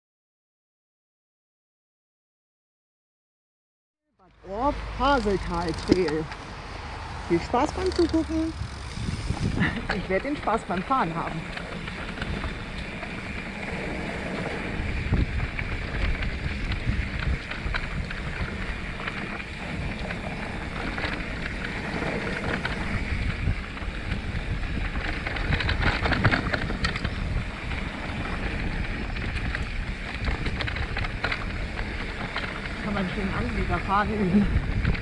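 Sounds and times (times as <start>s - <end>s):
wind buffeting microphone: 4.4s - 35.0s
tyres rolling on dirt: 4.5s - 35.0s
bike clattering over bumps: 4.6s - 6.6s, 7.3s - 35.0s.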